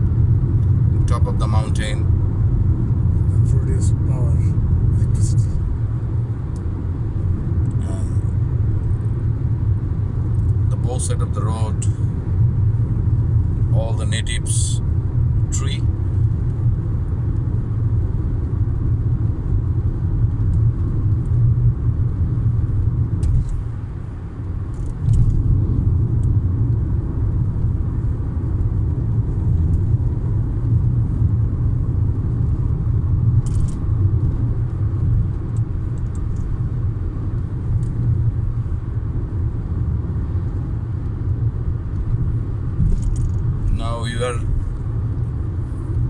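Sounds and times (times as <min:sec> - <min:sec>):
car cabin road rumble: 0:00.0 - 0:46.0.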